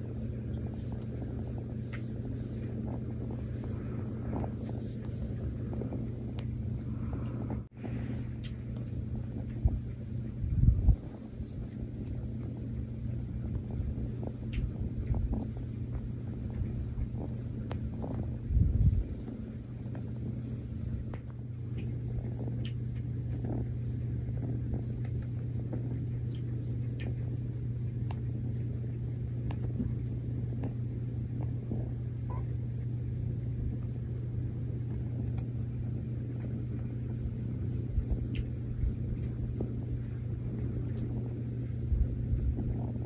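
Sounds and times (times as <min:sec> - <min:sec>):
kitten purring: 0:00.0 - 0:43.0.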